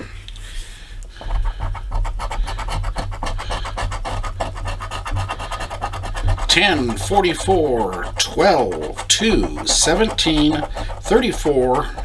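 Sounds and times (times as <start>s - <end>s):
lottery ticket being scratched: 1.3s - 12.0s.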